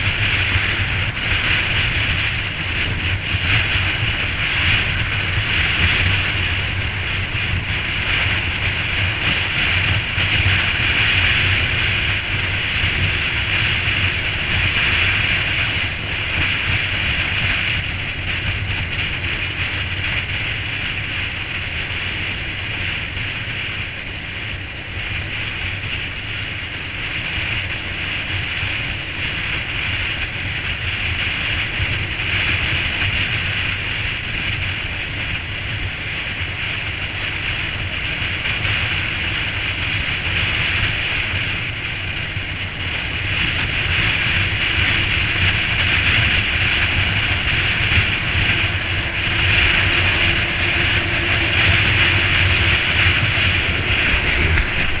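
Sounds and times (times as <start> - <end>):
low engine and road rumble: 0.0 - 55.0.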